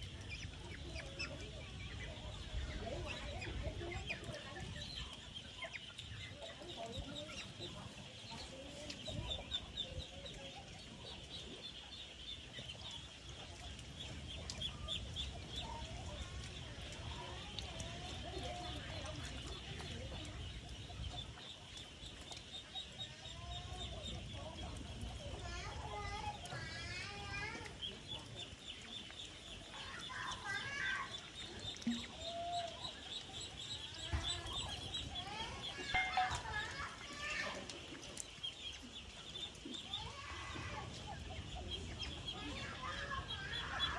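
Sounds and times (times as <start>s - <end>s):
birds chirping: 0.0s - 43.9s
chickens clucking: 0.0s - 43.9s.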